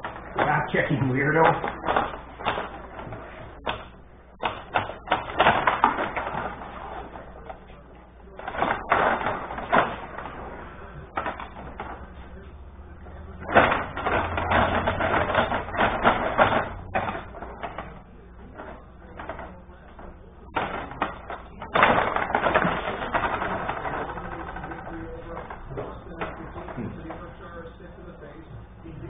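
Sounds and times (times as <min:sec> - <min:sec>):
table hockey rods and puck clatter: 0:00.0 - 0:28.5.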